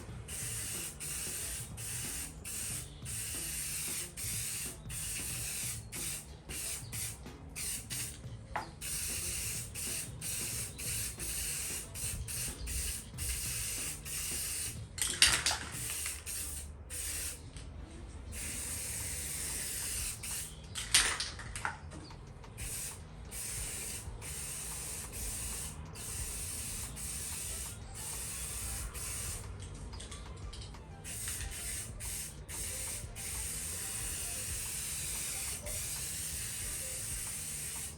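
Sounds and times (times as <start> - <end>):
spray can hissing: 0.0 - 17.4, 18.4 - 21.6, 22.5 - 29.6, 31.0 - 37.9.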